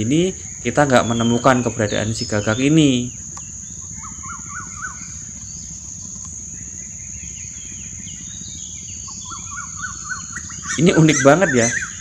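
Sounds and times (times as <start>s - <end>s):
bird calling rising notes: 0.0s - 12.0s
faint bird chirps: 0.0s - 12.0s
high insect buzz: 0.0s - 12.0s.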